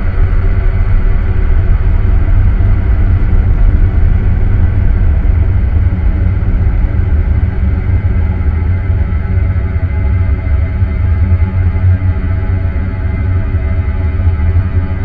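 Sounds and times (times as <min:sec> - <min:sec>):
dense low rumble: 0:00.0 - 0:15.0.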